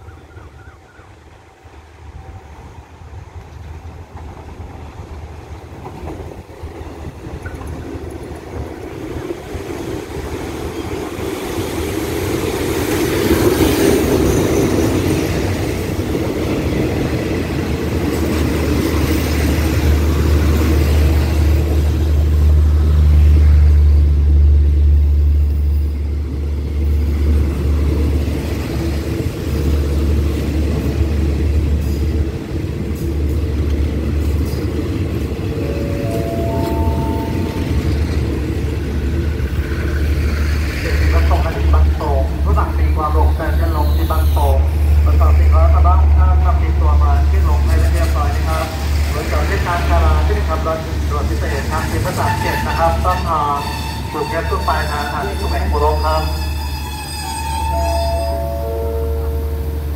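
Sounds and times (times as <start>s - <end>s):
diesel locomotive passing: 0.0s - 59.9s
train coaches rolling past: 0.0s - 59.9s.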